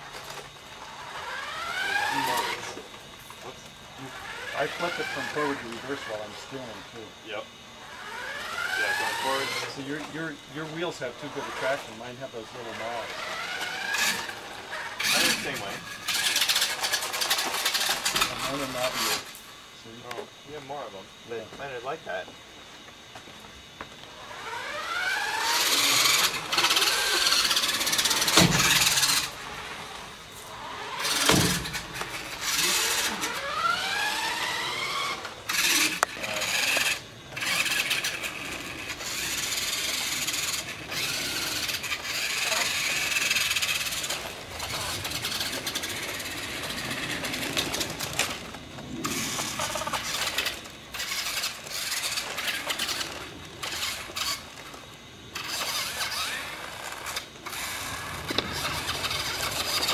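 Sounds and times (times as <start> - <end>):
toy truck motors whining: 0.0 - 22.2, 23.8 - 59.9.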